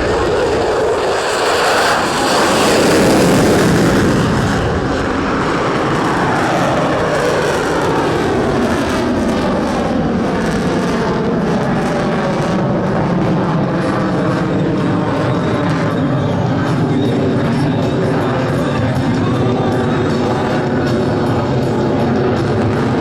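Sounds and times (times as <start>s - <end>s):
airplane flying past: 0.0s - 23.0s.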